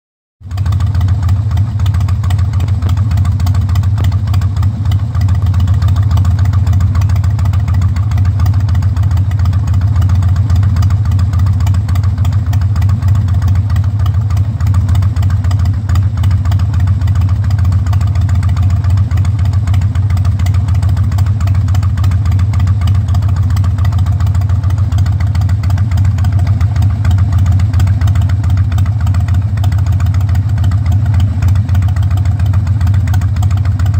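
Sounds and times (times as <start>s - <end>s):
motorcycle engine idling: 0.4s - 33.9s.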